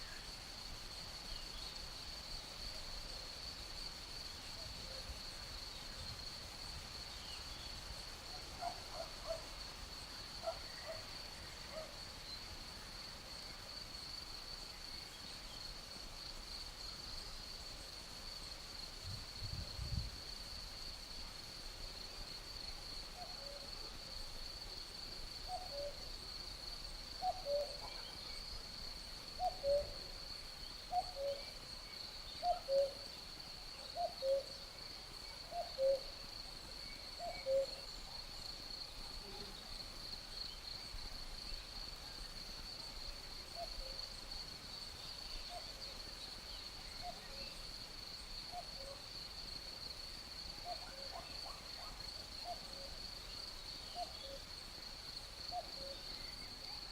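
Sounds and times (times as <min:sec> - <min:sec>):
crickets trilling: 0:00.0 - 0:21.2, 0:22.0 - 0:56.9.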